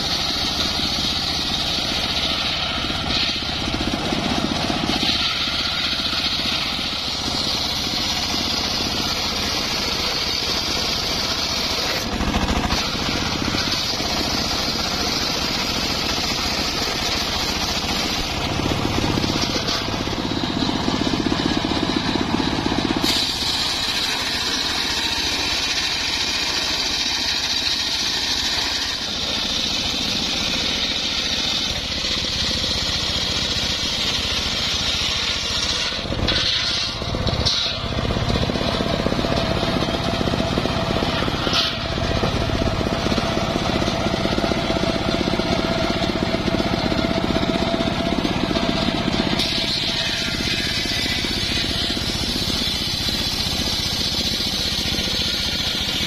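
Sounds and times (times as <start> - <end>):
circular saw blade whining: 0.0 - 56.0.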